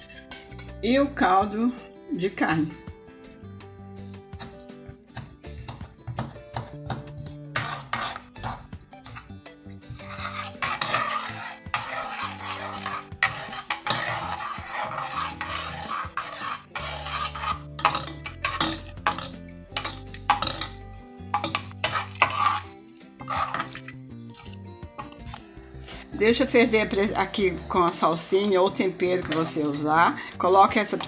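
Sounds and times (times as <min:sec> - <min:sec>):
metal spoon scraping a pan: 0:00.0 - 0:00.9, 0:04.2 - 0:31.0.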